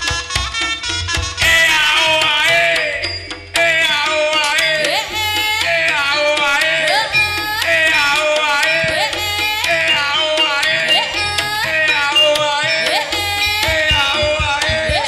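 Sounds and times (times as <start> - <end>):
melody over hand drums: 0.0 - 15.0.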